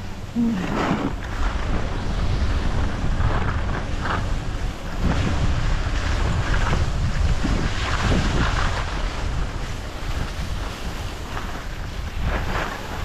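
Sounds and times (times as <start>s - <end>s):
wind rushing over microphone: 0.0s - 13.0s
skis swishing on snow: 0.4s - 13.0s.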